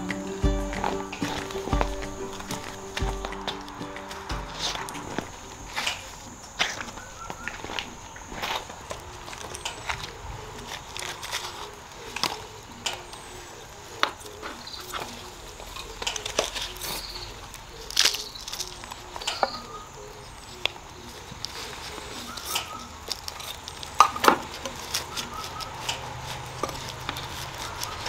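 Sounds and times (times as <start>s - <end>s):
crunching and rustling of soil: 0.0s - 3.8s, 4.5s - 28.0s.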